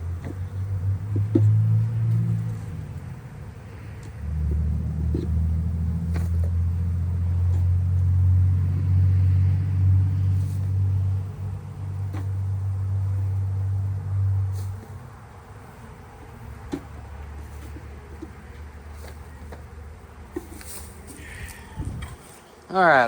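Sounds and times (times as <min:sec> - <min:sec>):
low motor rumble: 0:00.0 - 0:23.0.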